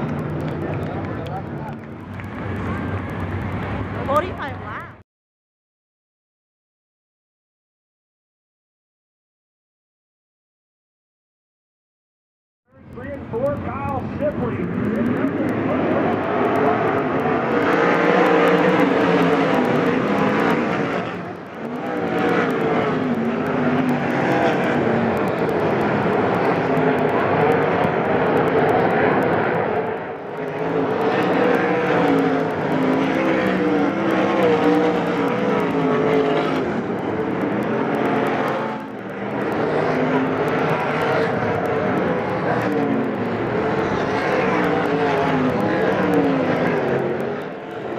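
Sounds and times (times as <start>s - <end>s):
racing car engines at full throttle: 0.0s - 5.0s, 12.7s - 47.9s.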